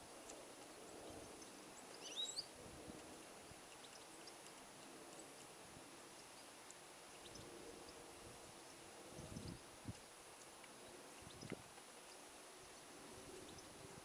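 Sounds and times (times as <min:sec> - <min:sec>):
faint background hiss: 0:00.0 - 0:14.0.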